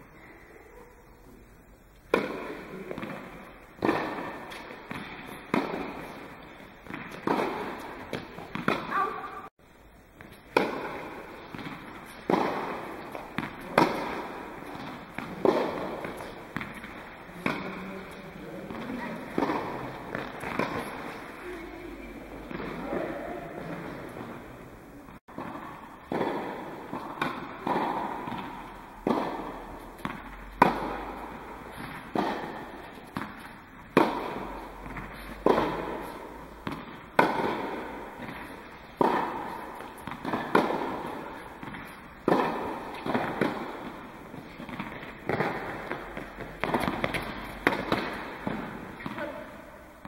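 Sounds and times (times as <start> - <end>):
tennis ball hit by racket: 2.1 - 9.4, 10.2 - 49.8.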